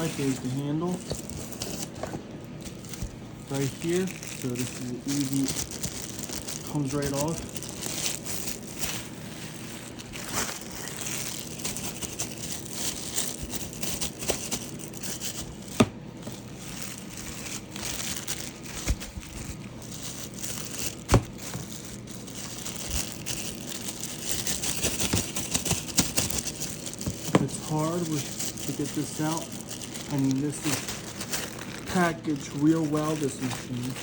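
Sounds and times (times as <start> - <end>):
packaging rustling and crinkling: 0.0 - 34.0.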